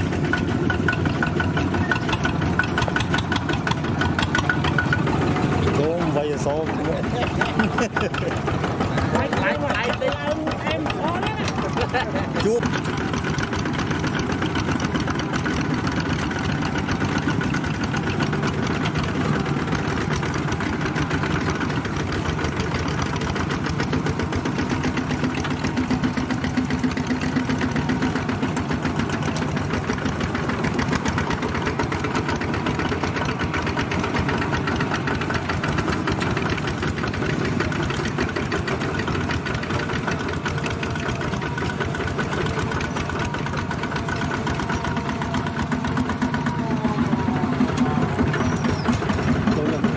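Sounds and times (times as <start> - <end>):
diesel engines chugging: 0.0 - 49.9.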